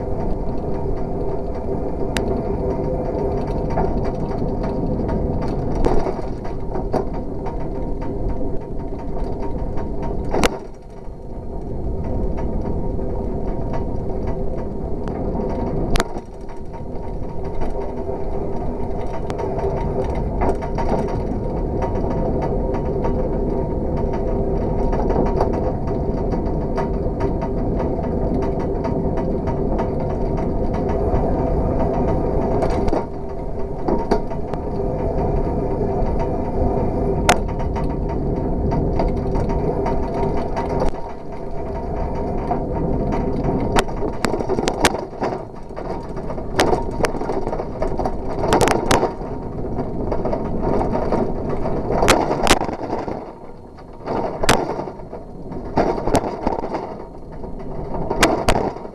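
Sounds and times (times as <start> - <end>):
bicycle tyres rolling on asphalt: 0.0 - 58.9.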